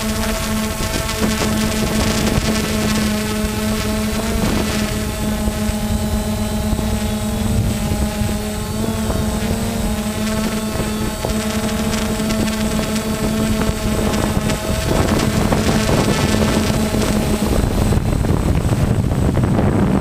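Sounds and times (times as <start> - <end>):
drone motors buzzing hum: 0.0 - 20.0.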